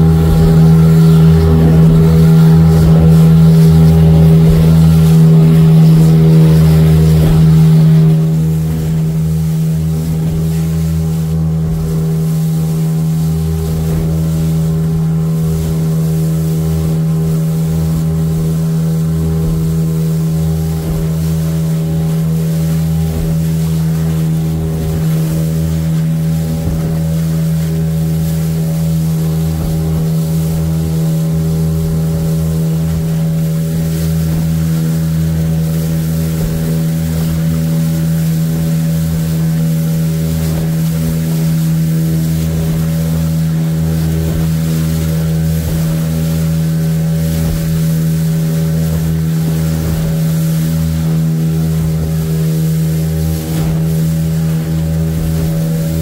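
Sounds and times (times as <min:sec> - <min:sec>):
boat motor droning: 0:00.0 - 0:56.0
water rushing past hull: 0:00.0 - 0:56.0.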